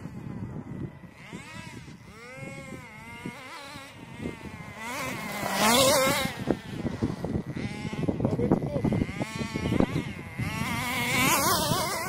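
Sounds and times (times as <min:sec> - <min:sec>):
rc car engine revving: 0:00.0 - 0:12.0.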